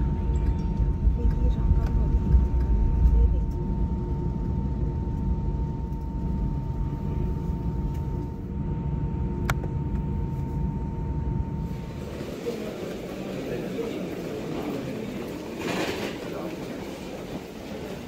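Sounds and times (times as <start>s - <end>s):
constant whine: 0.0s - 15.3s.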